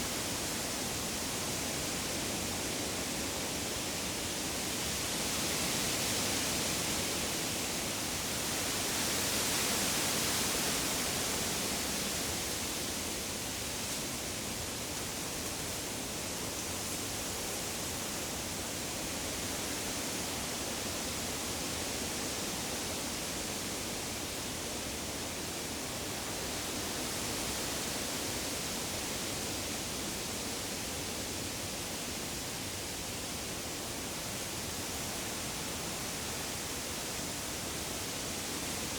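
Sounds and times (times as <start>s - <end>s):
wind rustling leaves: 0.0s - 38.9s.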